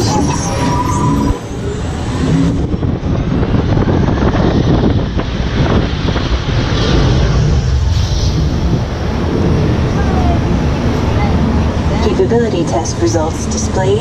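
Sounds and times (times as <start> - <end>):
ride vehicle rumbling on track: 0.0 - 14.0.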